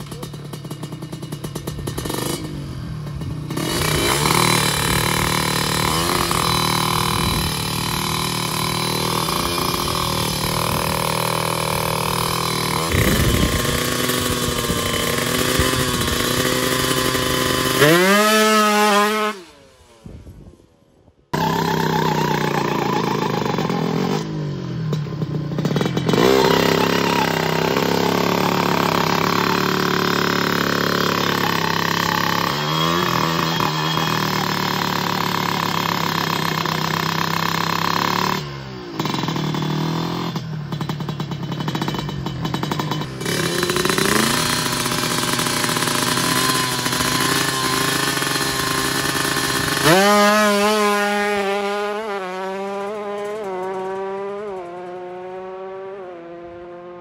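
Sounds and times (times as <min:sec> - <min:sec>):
two-stroke engine revving: 0:00.0 - 0:20.0, 0:21.3 - 0:57.0.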